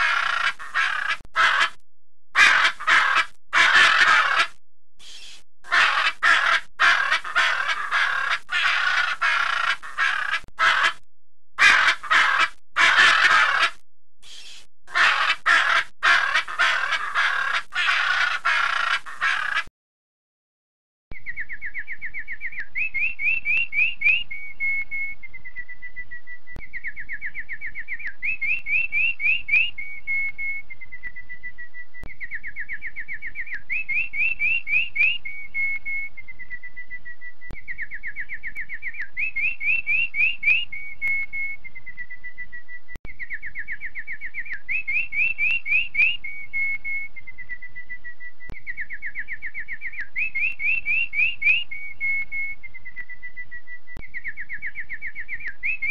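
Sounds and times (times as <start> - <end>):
canary singing: 0.0 - 1.8, 2.4 - 11.0, 21.2 - 55.9.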